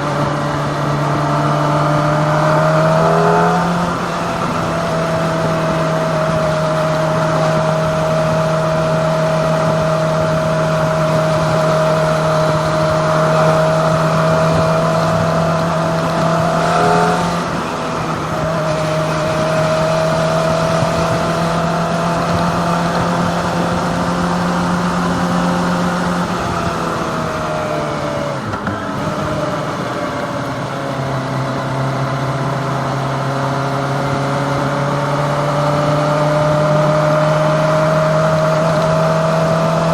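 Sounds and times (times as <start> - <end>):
riding wind rushing: 0.0 - 32.7
motorcycle engine cruising: 0.0 - 39.9.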